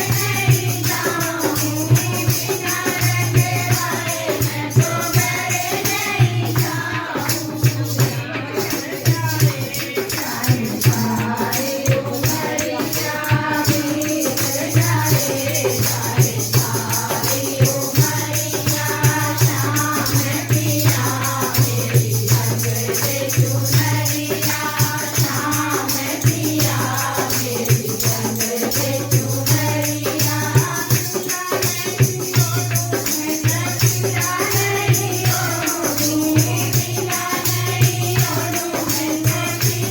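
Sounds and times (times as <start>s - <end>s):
devotional singing: 0.0s - 39.9s
percussion with steady beat: 0.0s - 39.9s.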